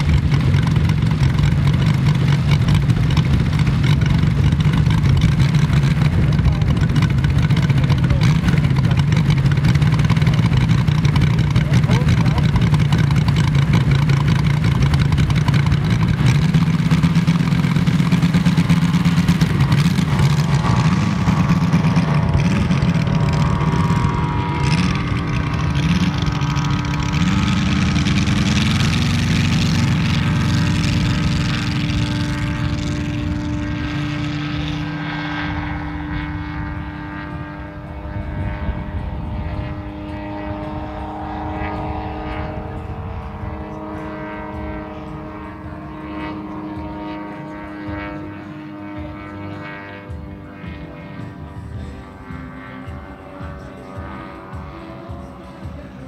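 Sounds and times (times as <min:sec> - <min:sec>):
model plane engine at full power: 0:00.0 - 0:56.0.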